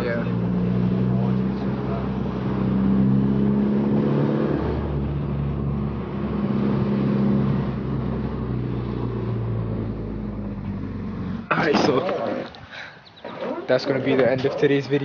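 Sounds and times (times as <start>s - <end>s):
car engine droning: 0.0s - 12.6s.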